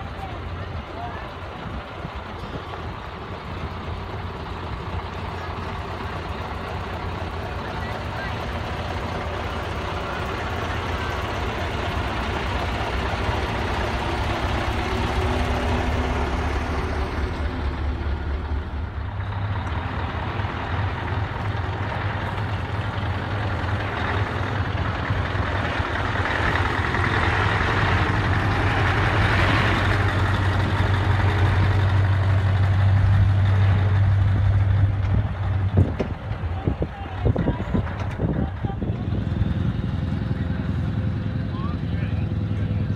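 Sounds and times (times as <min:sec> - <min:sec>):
low steady engine drone: 0:00.0 - 0:42.9
truck engines driving past: 0:00.0 - 0:42.9.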